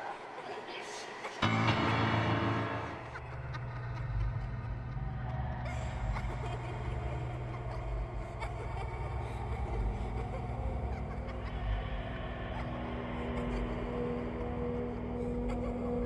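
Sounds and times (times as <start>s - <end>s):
low rumbling drone: 1.4s - 16.0s.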